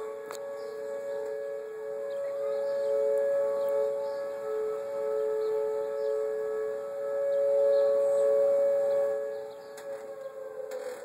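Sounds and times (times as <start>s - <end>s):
tornado warning sirens: 0.0s - 11.0s.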